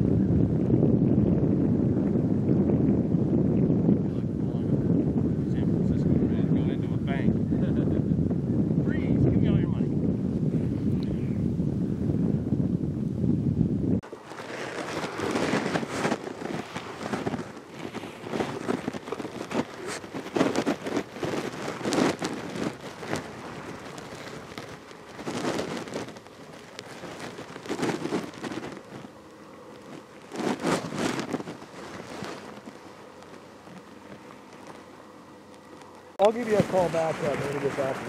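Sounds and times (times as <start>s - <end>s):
fabric decoys flapping in wind: 0.0s - 38.0s.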